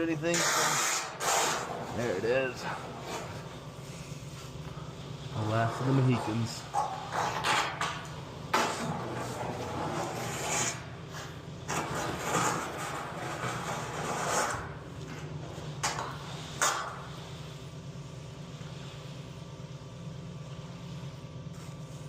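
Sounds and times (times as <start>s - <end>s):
truck engine and pump hum: 0.0s - 22.0s.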